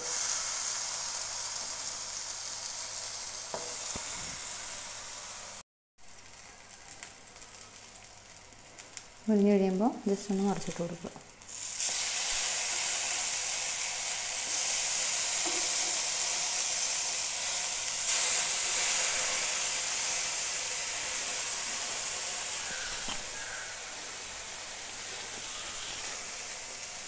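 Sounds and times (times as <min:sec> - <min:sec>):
slices sizzling in oil: 0:00.0 - 0:27.0.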